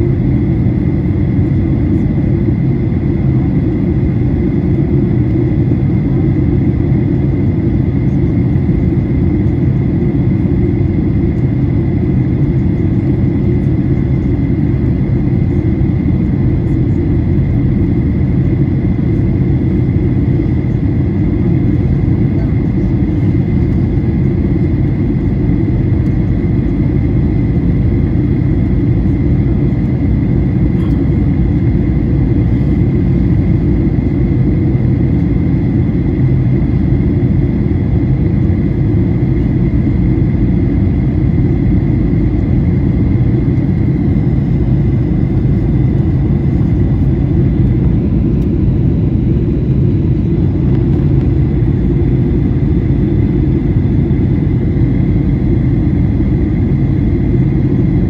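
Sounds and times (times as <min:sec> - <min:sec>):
airplane cabin engine rumble: 0:00.0 - 0:58.0
thin steady whine: 0:00.0 - 0:58.0.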